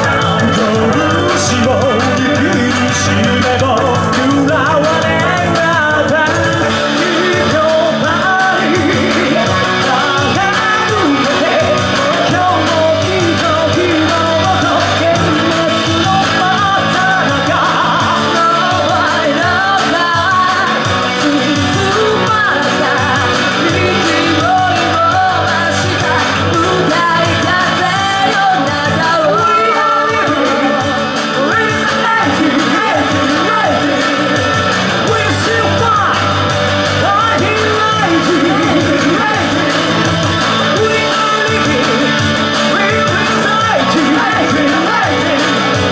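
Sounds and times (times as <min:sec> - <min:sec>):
live rock band playing: 0:00.0 - 0:45.9
man singing and shouting: 0:00.0 - 0:45.9.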